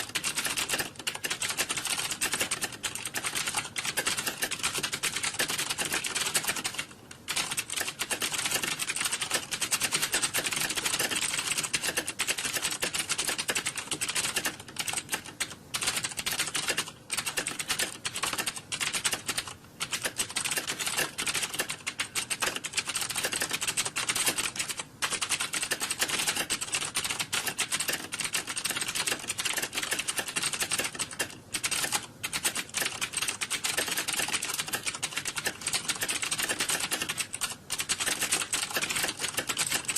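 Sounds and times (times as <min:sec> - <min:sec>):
fast typing on computer keyboard: 0:00.0 - 0:39.9.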